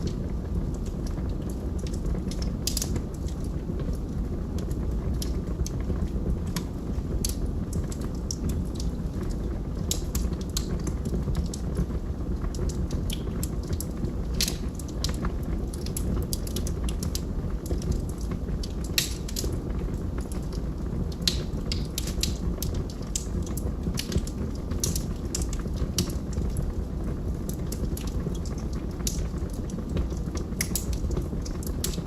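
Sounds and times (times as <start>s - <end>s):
log fire crackling: 0.0s - 32.0s.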